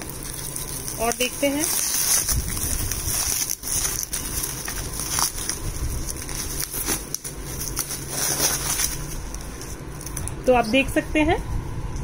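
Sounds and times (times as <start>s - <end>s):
gift packaging crinkling: 0.0s - 10.5s.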